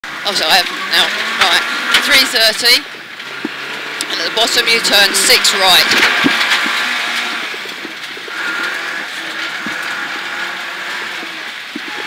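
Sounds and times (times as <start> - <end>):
car engine under load: 0.0 - 12.0
tyres rumbling on gravel: 0.0 - 12.0.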